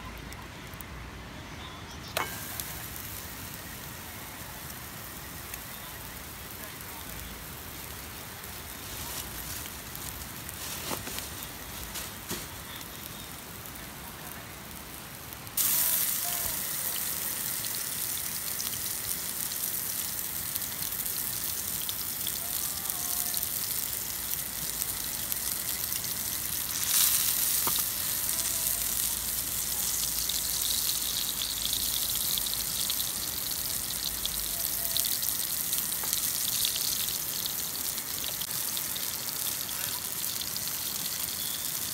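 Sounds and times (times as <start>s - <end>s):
campfire crackling: 0.0s - 41.9s
food sizzling in a pan: 2.0s - 41.9s.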